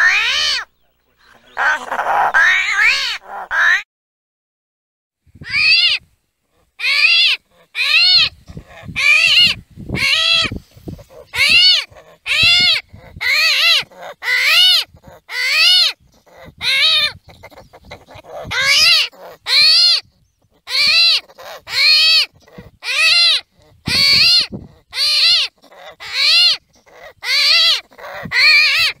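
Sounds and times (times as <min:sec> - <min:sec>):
armadillo screaming: 0:00.0 - 0:03.8, 0:05.4 - 0:06.0, 0:06.8 - 0:29.0.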